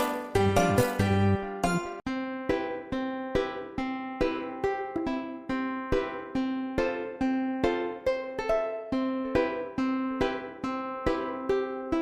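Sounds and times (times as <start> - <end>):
plucked ukulele music: 0.0 - 12.0.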